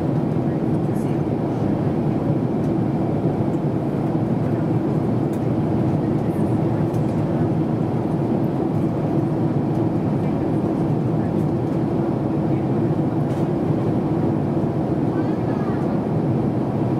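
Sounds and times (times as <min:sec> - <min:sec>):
airplane cabin engine rush: 0:00.0 - 0:16.9.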